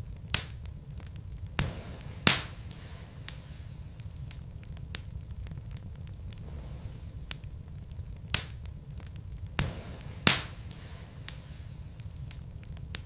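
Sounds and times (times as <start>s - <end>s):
logs crackling in a fireplace: 0.0s - 13.0s
low fire rumble: 0.0s - 13.0s
sharp pops of burning wood: 0.0s - 13.0s.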